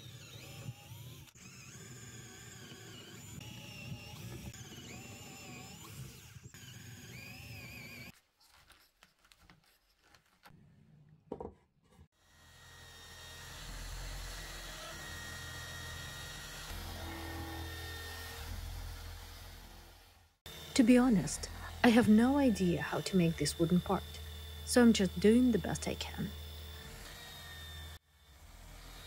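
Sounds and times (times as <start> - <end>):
power drill boring into wood: 0.0 - 8.1, 12.2 - 29.0
drill spinning sanding disc: 0.0 - 8.2, 12.2 - 29.0.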